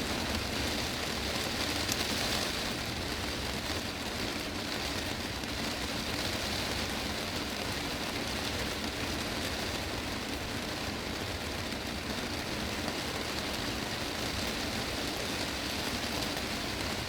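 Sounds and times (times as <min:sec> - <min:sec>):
heavy rain on glass roof: 0:00.0 - 0:17.0.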